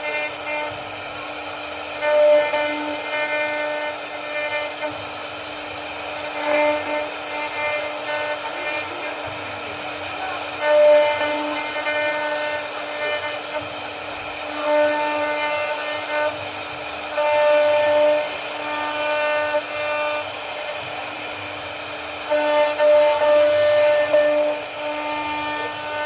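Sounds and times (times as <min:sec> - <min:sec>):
router bit carving wood: 0:00.0 - 0:26.0
router spindle whining: 0:00.0 - 0:26.0.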